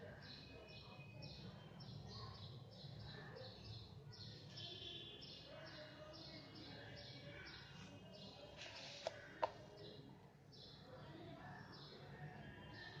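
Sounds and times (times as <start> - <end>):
birds chirping faintly: 0.0 - 13.0
low steady background noise: 0.0 - 13.0.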